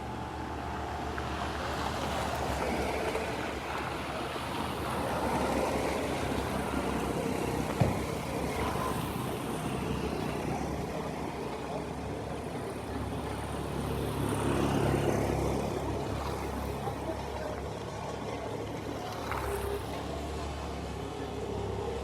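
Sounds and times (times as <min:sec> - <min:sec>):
road traffic rushing past: 0:00.0 - 0:22.0.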